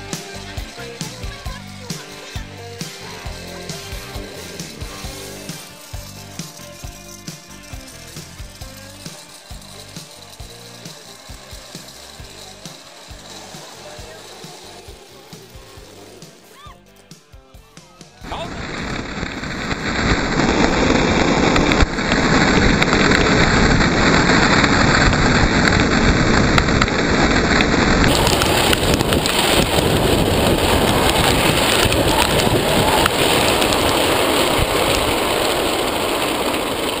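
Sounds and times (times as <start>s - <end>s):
cart wheels rumbling on asphalt: 0.0s - 37.0s.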